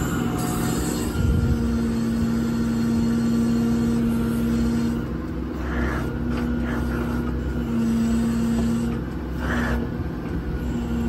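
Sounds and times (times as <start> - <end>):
diesel engine low rumble: 0.0 - 11.0
steady hydraulic hum: 0.0 - 11.0.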